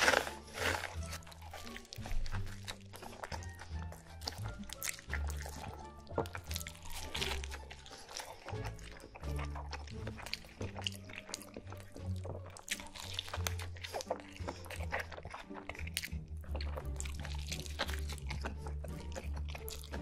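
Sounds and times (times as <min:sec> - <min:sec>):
wet squelching and crackling: 0:00.0 - 0:20.0.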